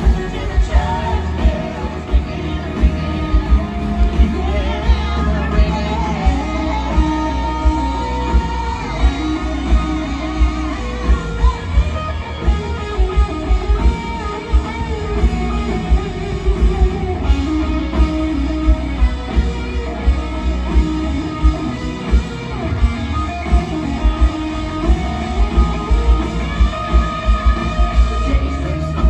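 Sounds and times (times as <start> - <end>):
electric guitar: 0.0 - 29.0
live band playing country-rock: 0.0 - 29.0.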